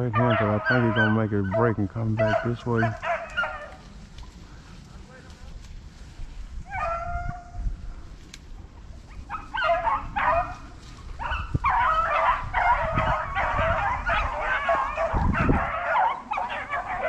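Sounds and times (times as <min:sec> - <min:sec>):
hounds baying: 0:00.0 - 0:05.3, 0:06.6 - 0:07.8, 0:08.8 - 0:17.0.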